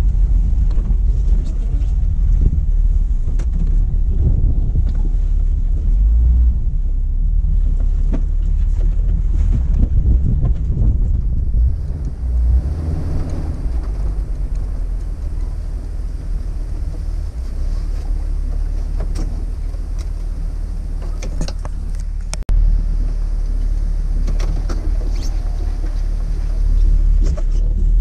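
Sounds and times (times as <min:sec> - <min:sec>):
car engine idling: 0:00.0 - 0:28.0
car engine rumble: 0:00.0 - 0:28.0.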